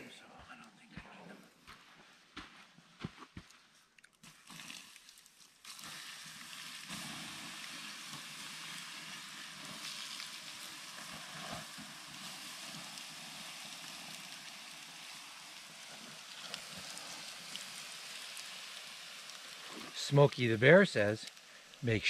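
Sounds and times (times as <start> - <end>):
faint fire crackles: 0.0 - 22.0
embers hissing when doused: 4.2 - 22.0.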